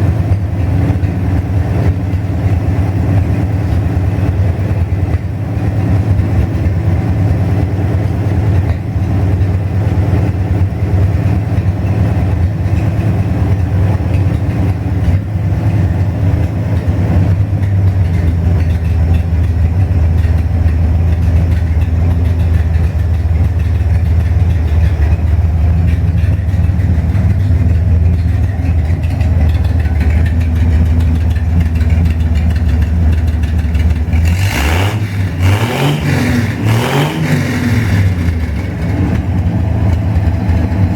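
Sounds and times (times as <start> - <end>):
car engine running and revving: 0.0 - 40.9.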